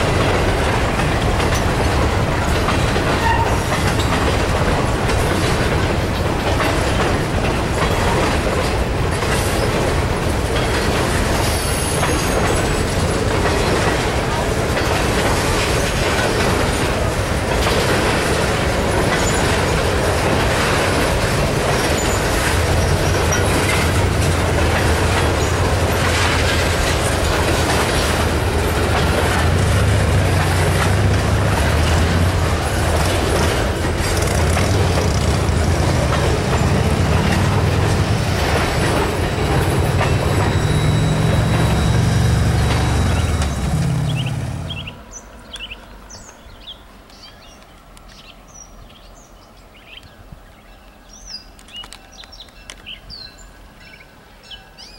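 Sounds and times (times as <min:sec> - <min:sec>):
wheels clacking over rail joints: 0:00.0 - 0:48.1
freight train rolling past: 0:00.0 - 0:50.0.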